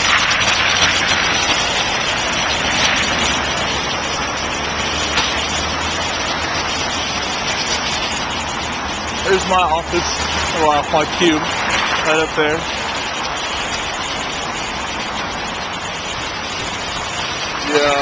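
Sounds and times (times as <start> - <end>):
car tyres hissing on street: 0.0 - 18.0
low engine rumble: 0.0 - 18.0.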